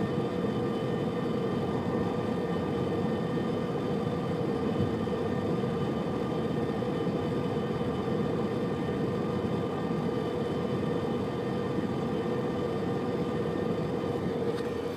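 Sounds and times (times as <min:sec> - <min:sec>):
road noise inside car: 0:00.0 - 0:14.9.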